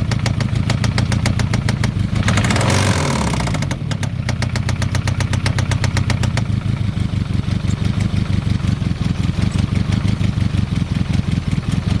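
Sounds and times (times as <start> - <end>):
engine idle rumble: 0.0 - 12.0
engine rapid knock: 0.0 - 12.0.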